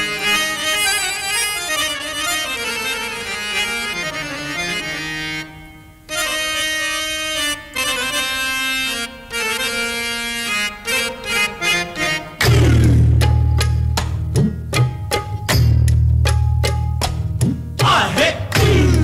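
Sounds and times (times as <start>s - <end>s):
harmonium melody: 0.0s - 17.2s.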